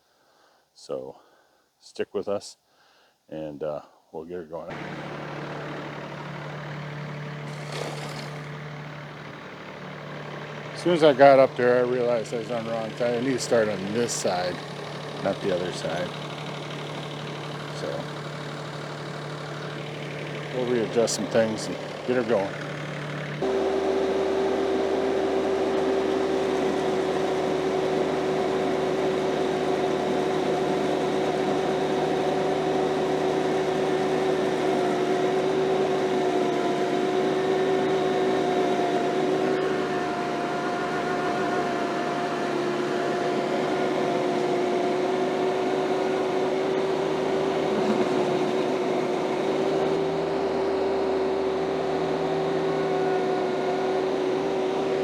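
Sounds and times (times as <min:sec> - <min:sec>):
diesel tractor engine running: 0:04.7 - 0:55.0
stump grinder whine: 0:04.7 - 0:55.0.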